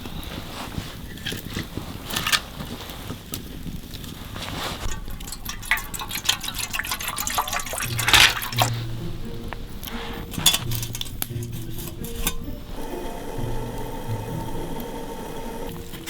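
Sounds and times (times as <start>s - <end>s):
liquid pouring and splashing: 0.5s - 16.0s.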